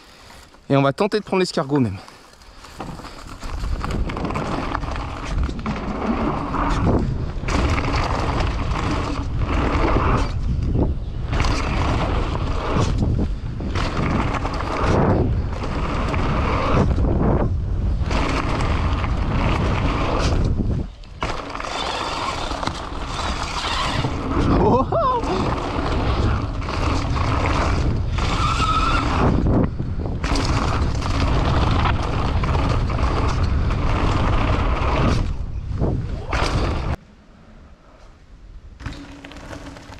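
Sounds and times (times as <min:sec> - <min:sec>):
bike tyres rolling on dirt: 0:00.0 - 0:37.0, 0:38.6 - 0:39.9
wind buffeting microphone: 0:03.0 - 0:37.0.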